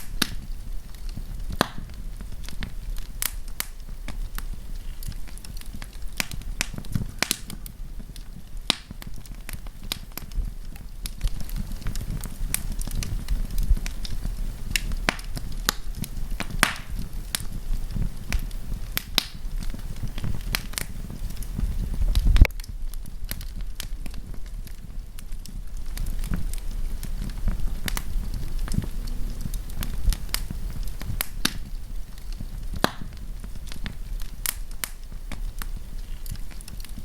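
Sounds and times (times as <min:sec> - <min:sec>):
campfire crackling and popping: 0:00.0 - 0:37.0
low rumble of flames: 0:00.0 - 0:37.0.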